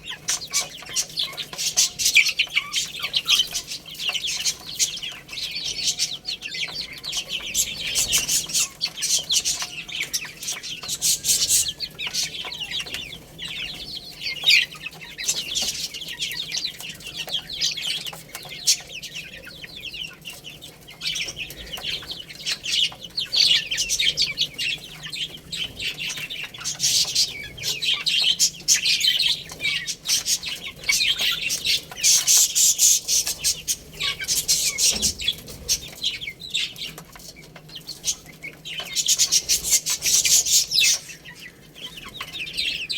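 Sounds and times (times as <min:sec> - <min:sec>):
baby chicks peeping: 0:00.0 - 0:42.9.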